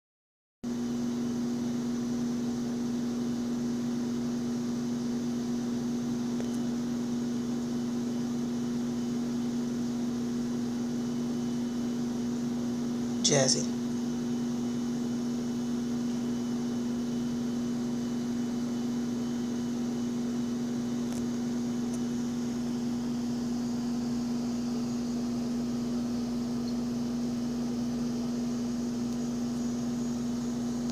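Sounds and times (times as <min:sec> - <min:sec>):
appliance electrical hum: 0:00.7 - 0:30.9.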